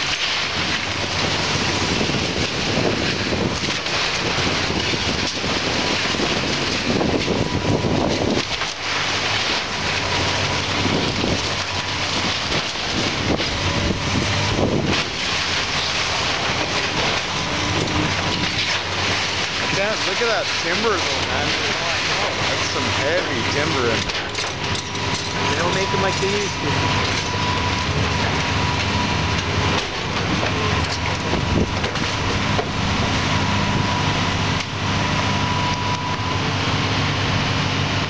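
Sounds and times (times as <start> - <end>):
timber cracking and crashing: 0.0 - 33.6
excavator diesel engine under load: 0.0 - 38.0.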